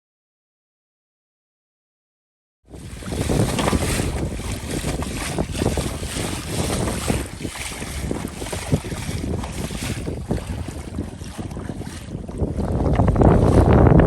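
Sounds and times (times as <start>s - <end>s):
water slapping kayak hull: 2.7s - 14.0s
wind buffeting microphone: 2.7s - 14.0s.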